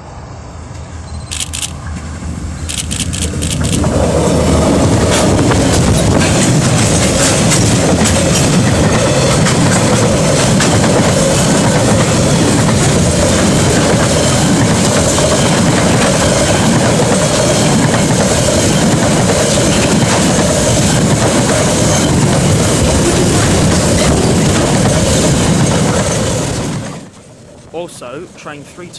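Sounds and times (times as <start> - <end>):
freight train wheels clattering: 1.3 - 27.3.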